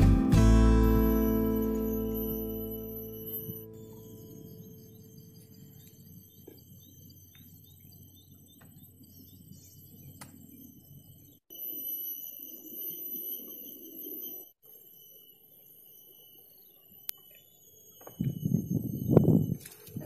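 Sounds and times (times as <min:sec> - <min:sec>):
short chirps: 0:00.0 - 0:19.8
insects droning: 0:00.9 - 0:20.0.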